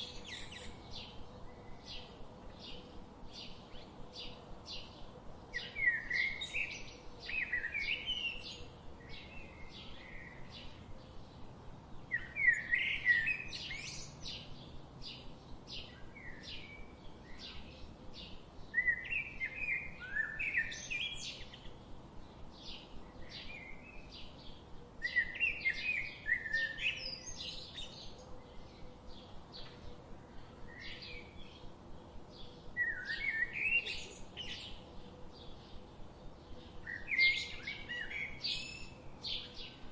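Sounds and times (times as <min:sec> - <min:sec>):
songbird warbling song: 0:00.0 - 0:39.9.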